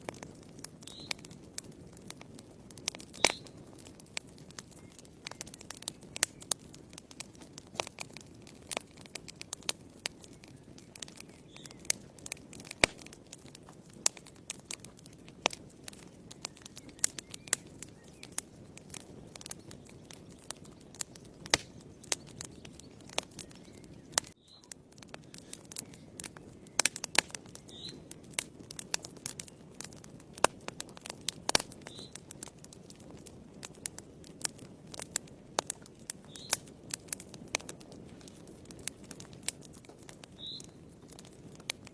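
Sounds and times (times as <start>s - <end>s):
low rush of flames: 0.0s - 41.9s
wood fire crackling and popping: 0.0s - 41.9s.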